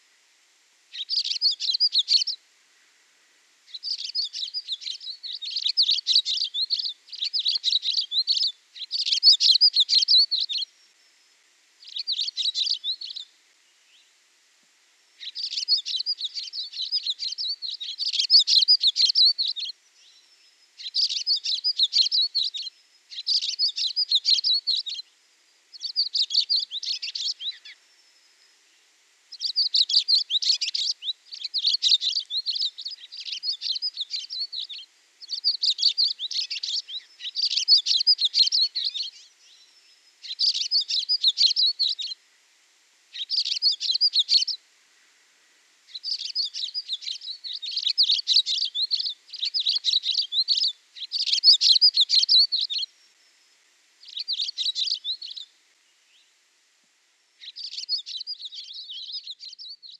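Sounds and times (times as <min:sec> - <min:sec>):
songbird chirping: 0:00.9 - 0:59.9.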